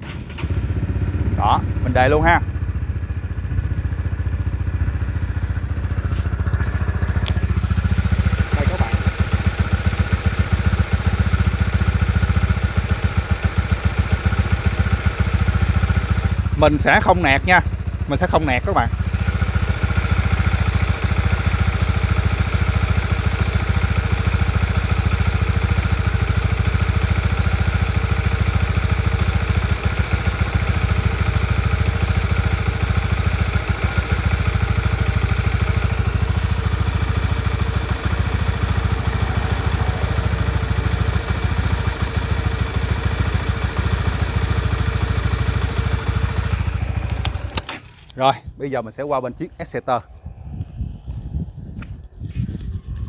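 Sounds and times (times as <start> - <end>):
motorcycle engine idling: 0.5 - 48.1.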